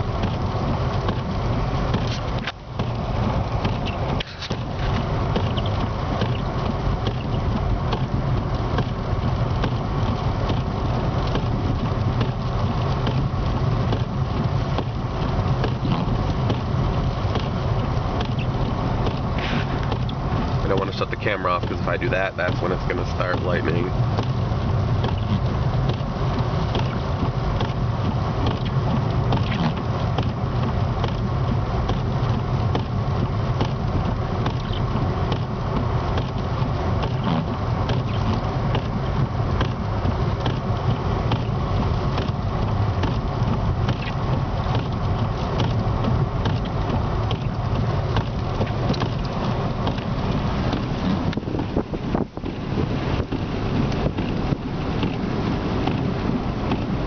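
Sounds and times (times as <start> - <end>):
car engine and road hum: 0.0 - 57.0
small irregular ticks and clicks: 0.1 - 52.6.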